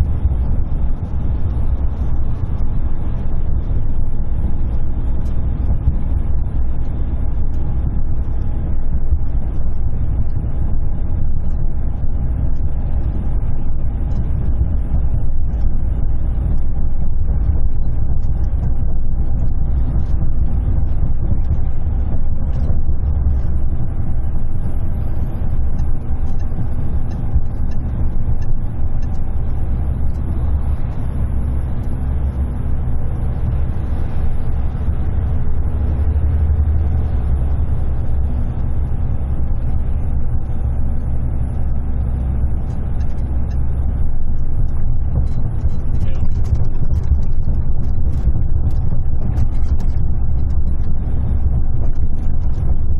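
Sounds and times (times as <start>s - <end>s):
truck engine and tyres rumbling: 0.0s - 52.9s.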